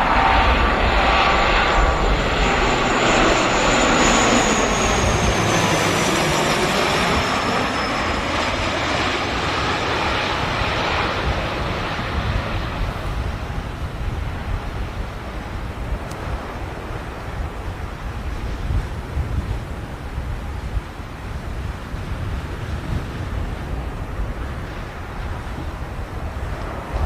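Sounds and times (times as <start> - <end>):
airplane flying over: 0.0 - 27.0.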